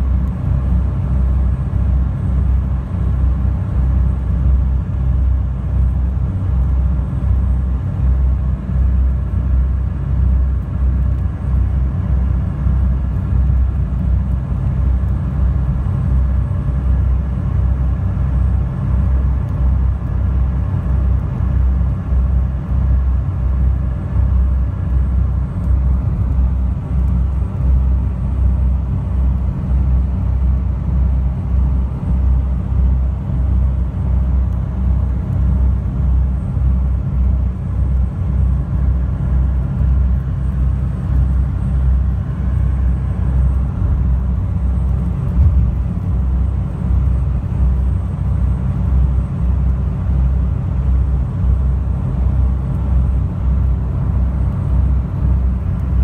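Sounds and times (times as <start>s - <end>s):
boat engines droning: 0.0s - 56.0s.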